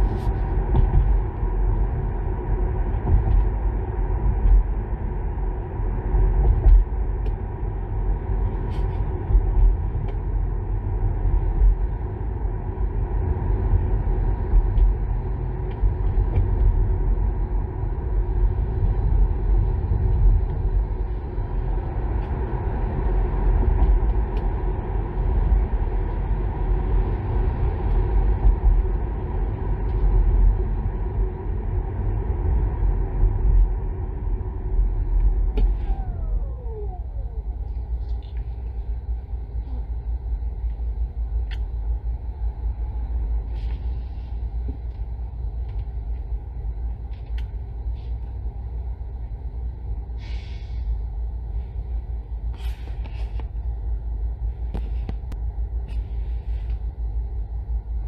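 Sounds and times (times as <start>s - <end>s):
road and tyre rumble: 0.0s - 58.0s.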